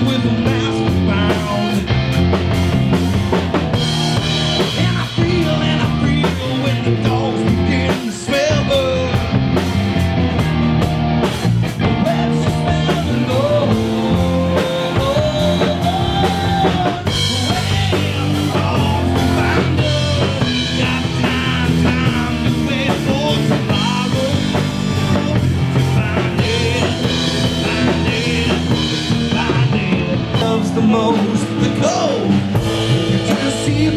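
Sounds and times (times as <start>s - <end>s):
man singing: 0.0s - 2.3s, 4.1s - 9.3s, 11.8s - 33.9s
drum kit beat: 0.0s - 33.9s
electric bass: 0.0s - 33.9s
electric guitar: 0.0s - 33.9s.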